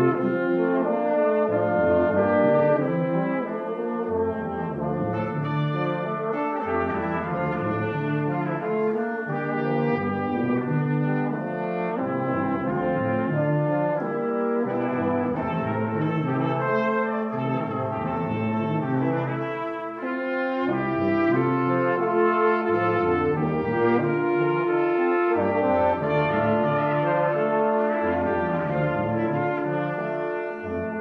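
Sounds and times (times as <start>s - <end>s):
brass ensemble playing chords: 0.0s - 31.0s.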